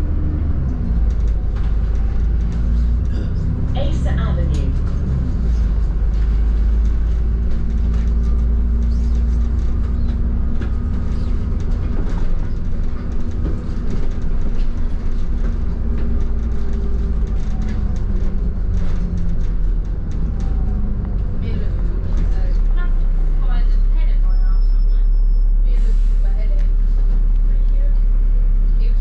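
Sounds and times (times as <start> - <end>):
bus body rattling: 0.0 - 29.0
bus engine and road rumble: 0.0 - 29.0.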